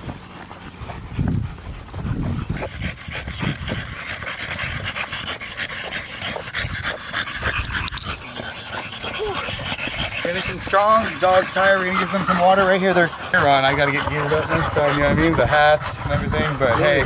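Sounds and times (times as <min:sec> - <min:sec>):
dogs panting: 0:00.0 - 0:17.0.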